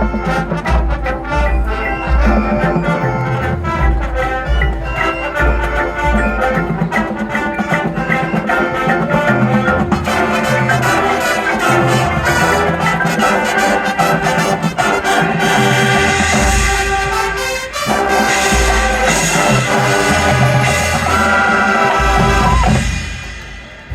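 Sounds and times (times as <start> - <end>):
brass chords: 0.0 - 23.9
drum line hits: 0.0 - 23.9.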